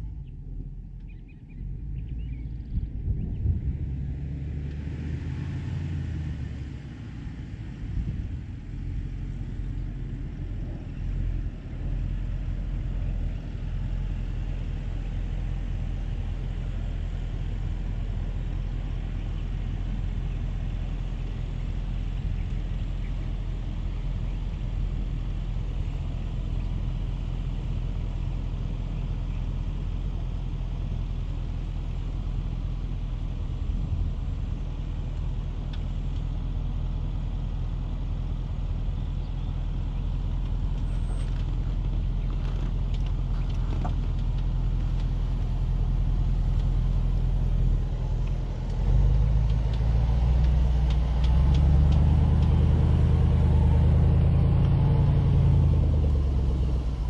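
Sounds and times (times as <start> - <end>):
engine low rumble: 0.0 - 57.0.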